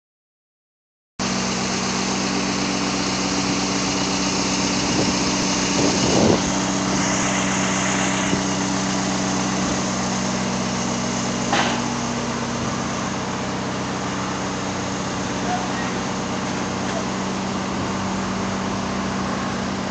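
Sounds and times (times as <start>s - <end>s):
truck engine humming: 1.2s - 19.9s.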